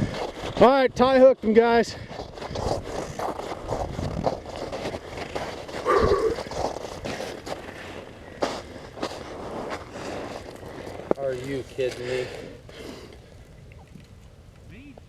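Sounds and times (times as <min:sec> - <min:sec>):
footsteps crunching on snow: 0:00.0 - 0:14.3.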